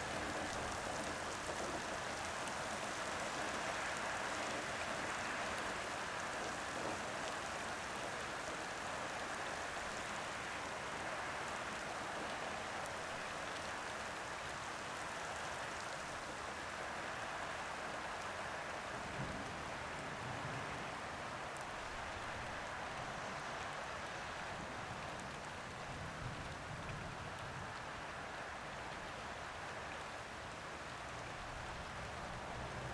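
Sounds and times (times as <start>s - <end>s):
heavy rain: 0.0s - 32.9s.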